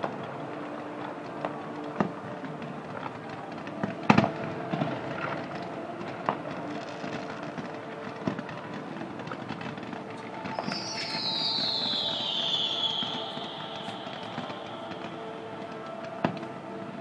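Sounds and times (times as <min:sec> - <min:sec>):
steady background noise: 0:00.0 - 0:17.0
fireworks bangs and cracks: 0:01.5 - 0:16.9.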